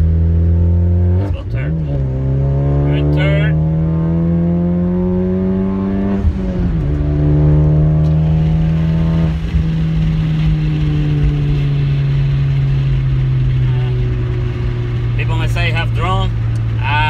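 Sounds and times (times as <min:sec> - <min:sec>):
car engine accelerating and shifting: 0:00.0 - 0:17.0.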